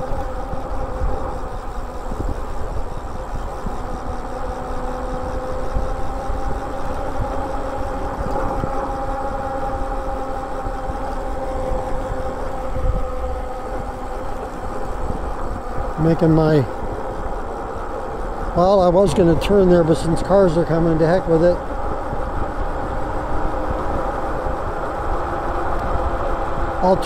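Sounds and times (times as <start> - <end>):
e-bike motor hum: 0.0 - 27.0
wind rumble on microphone: 0.0 - 27.0.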